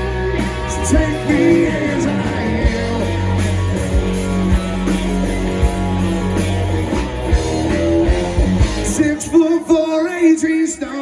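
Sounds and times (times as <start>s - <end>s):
drum kit hits: 0.0s - 9.1s
rock band playing: 0.0s - 11.0s.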